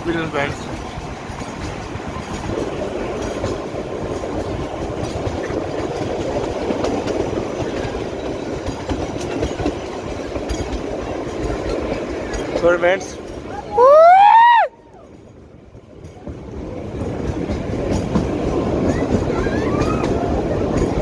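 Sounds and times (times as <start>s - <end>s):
faint clicking from rails: 0.0s - 21.0s
train wheels rumbling: 0.0s - 21.0s.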